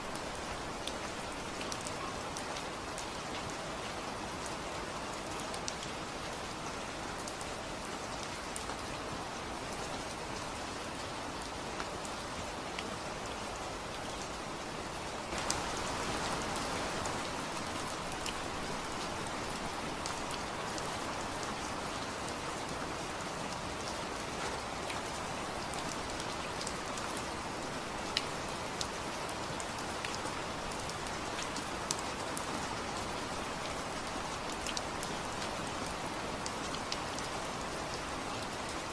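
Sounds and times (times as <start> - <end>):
rain falling on a surface: 0.0 - 38.9.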